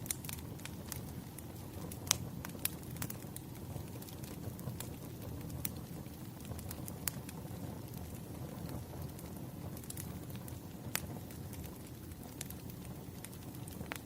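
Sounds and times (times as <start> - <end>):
firewood crackling and popping: 0.0 - 14.0
flames rumbling: 0.0 - 14.0.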